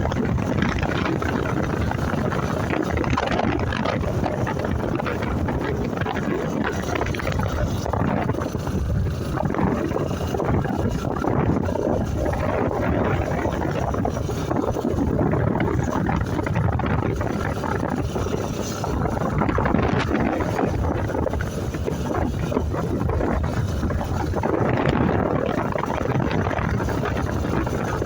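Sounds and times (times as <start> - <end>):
motorcycle engine: 0.0 - 28.0
road noise: 0.0 - 28.0
wind rushing over microphone: 0.0 - 28.0.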